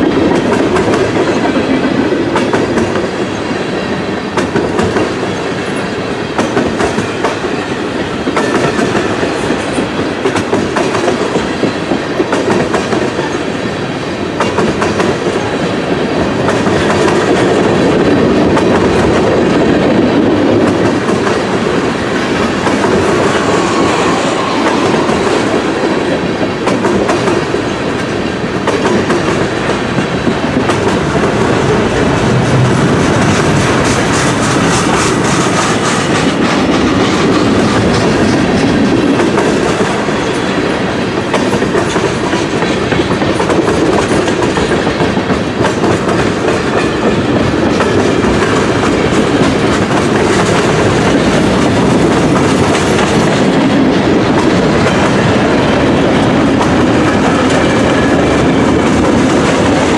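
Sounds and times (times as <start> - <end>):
continuous train rumble: 0.0 - 59.9
train wheels clickety-clack: 0.0 - 59.9.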